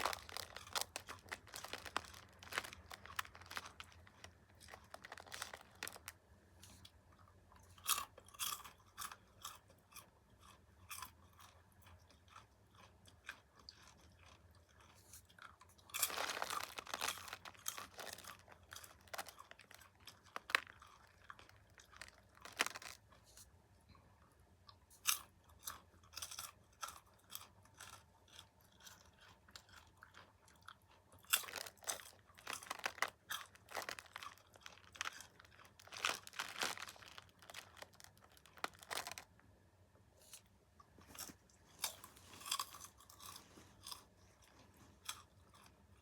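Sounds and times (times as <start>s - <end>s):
chewing popcorn crunching: 0.0s - 39.5s, 40.2s - 46.0s.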